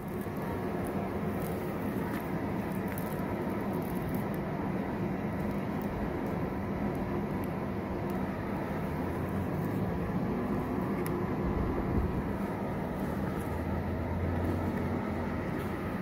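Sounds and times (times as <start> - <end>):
air rushing through duct: 0.0 - 16.0
blower motor humming: 0.0 - 16.0.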